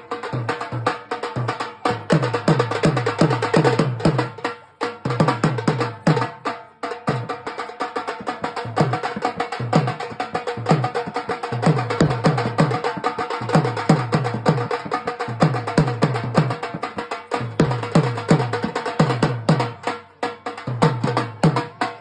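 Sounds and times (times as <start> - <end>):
fast dhol drumming: 0.0 - 22.0.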